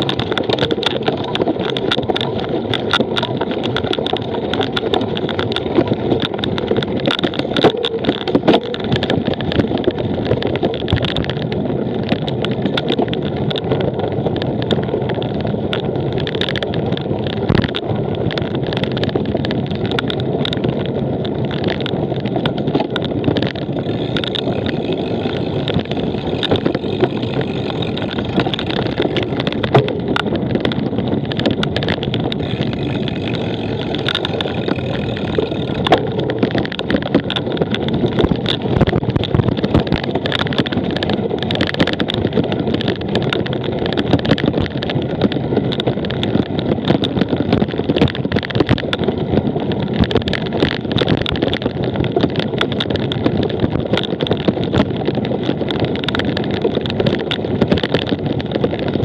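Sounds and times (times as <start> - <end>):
bike rattling clicks and knocks: 0.0 - 59.0
wind and tyre noise: 0.0 - 59.0.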